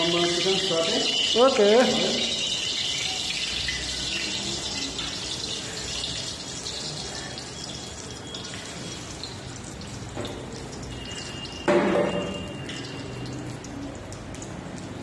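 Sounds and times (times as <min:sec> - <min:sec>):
chicken sizzling in hot oil: 0:00.0 - 0:14.1.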